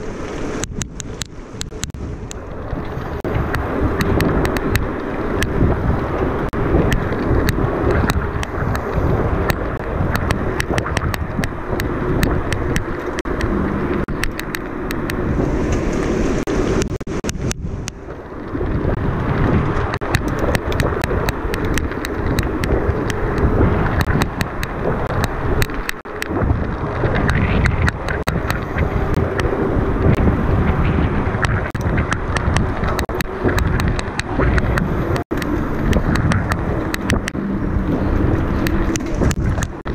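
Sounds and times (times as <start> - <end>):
mountain bike rattling on rough trail: 0.0 - 39.9.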